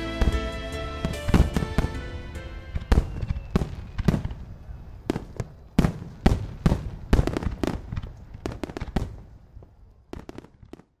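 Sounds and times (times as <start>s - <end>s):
fireworks bangs with rumble: 0.0s - 11.0s.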